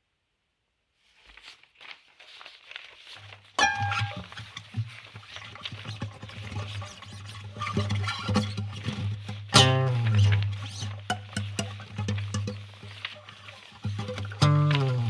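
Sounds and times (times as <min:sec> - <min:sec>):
crackling rustling object noise: 0:00.9 - 0:15.0.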